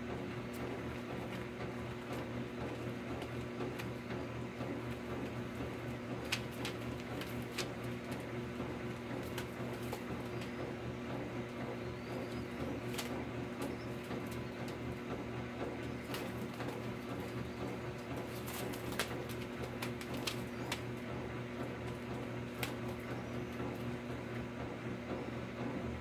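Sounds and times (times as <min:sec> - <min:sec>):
bird flapping wings: 0:00.4 - 0:10.8, 0:11.9 - 0:14.9, 0:15.6 - 0:24.0.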